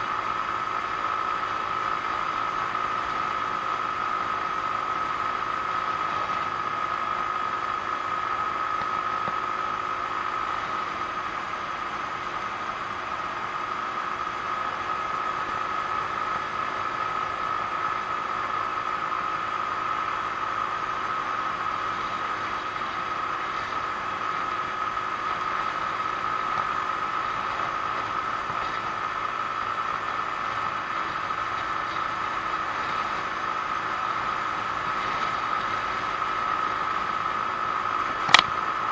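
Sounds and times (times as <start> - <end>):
scooter engine drone: 0.0 - 38.9
wind and road noise: 0.0 - 38.9.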